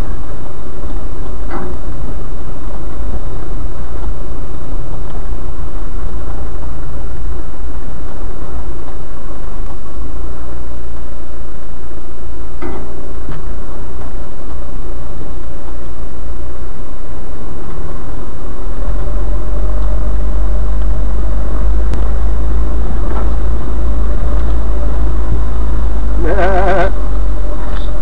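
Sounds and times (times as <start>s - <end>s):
vehicle cabin rumble: 0.0s - 28.0s.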